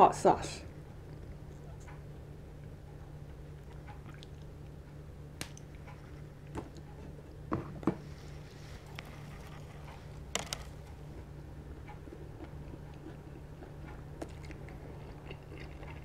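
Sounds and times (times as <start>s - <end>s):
steady low hum: 0.0s - 16.0s
chewing crispy fried chicken: 1.0s - 16.0s.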